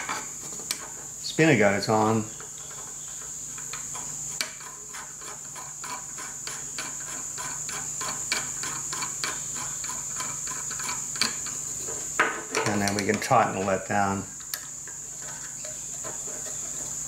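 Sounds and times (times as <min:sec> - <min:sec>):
steady high-pitched whine: 0:00.0 - 0:17.0.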